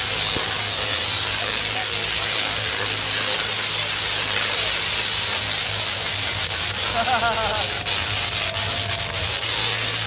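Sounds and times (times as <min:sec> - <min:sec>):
electric arcs hissing buzz: 0:00.0 - 0:10.0
sharp electric crackles: 0:00.0 - 0:10.0.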